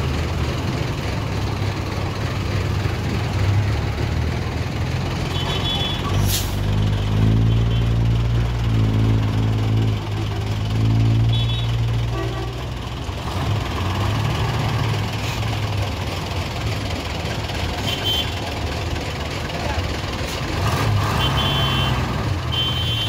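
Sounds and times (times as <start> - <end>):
diesel bus engine: 0.0 - 23.0.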